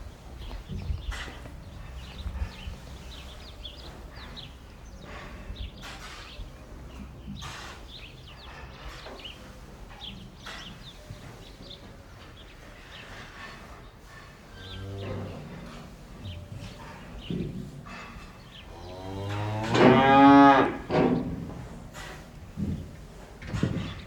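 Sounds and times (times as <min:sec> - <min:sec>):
small birds chirping: 0:00.0 - 0:19.6.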